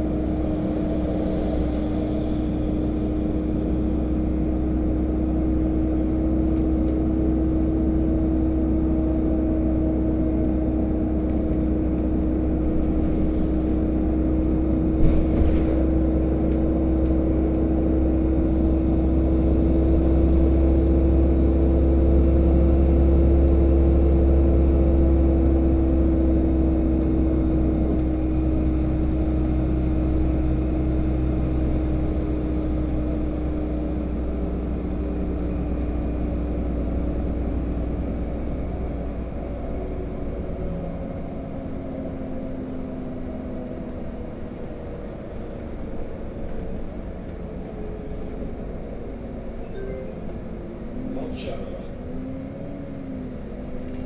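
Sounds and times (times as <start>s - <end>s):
bus engine drone inside cabin: 0.0s - 54.0s.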